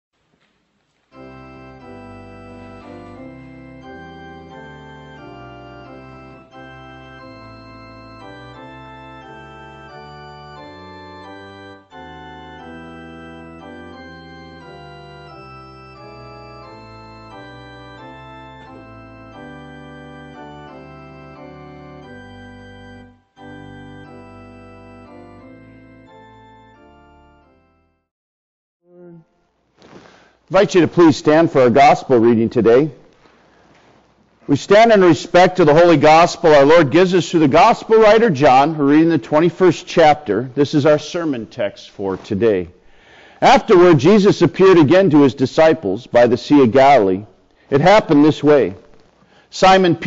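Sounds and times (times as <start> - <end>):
organ playing slow chords: 1.0 - 28.1, 34.4 - 41.7, 42.8 - 50.0.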